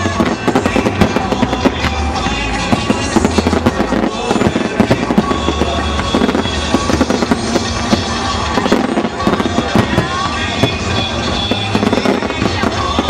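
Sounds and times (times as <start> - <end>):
fireworks bursting and crackling: 0.0 - 13.0
music playing: 0.0 - 13.0.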